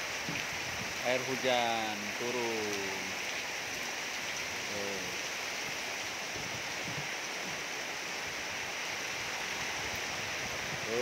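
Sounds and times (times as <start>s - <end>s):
heavy rain on water: 0.0s - 11.0s.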